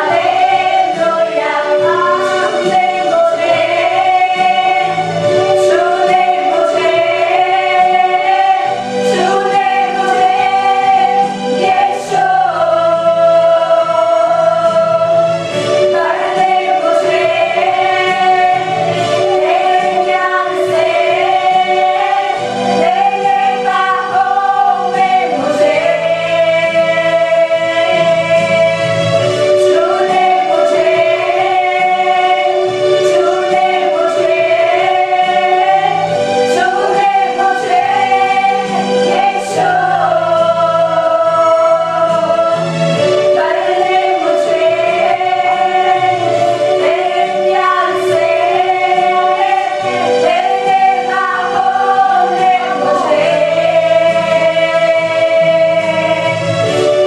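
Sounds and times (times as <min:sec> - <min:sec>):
group of people singing: 0:00.0 - 0:57.0.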